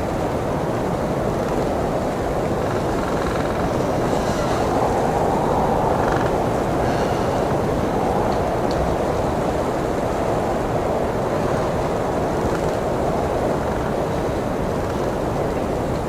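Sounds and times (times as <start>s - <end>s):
strong blizzard wind: 0.0s - 16.0s.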